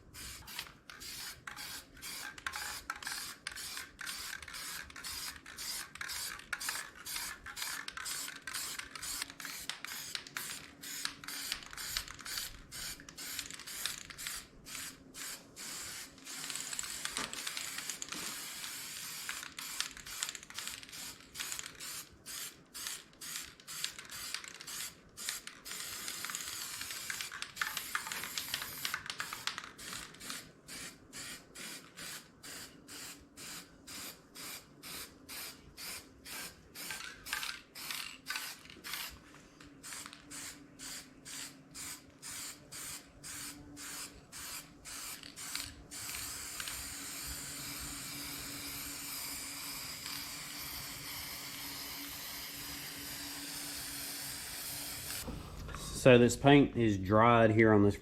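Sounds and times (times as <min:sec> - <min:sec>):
spray paint hissing: 0:00.1 - 0:39.2, 0:39.8 - 0:55.3.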